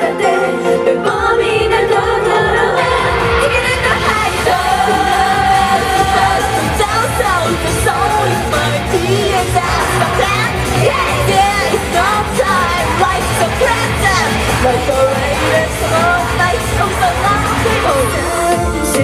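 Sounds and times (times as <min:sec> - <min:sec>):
backing music with steady beat: 0:00.0 - 0:19.0
women singing pop song: 0:00.0 - 0:19.0.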